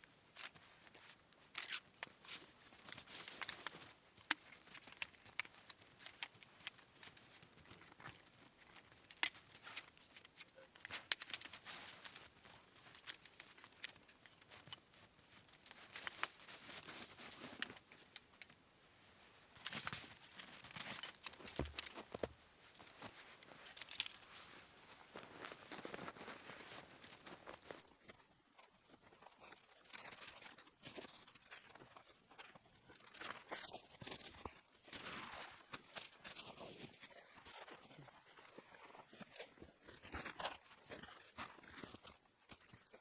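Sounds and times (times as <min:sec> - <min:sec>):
rustling and crinkling: 0:00.0 - 0:43.0.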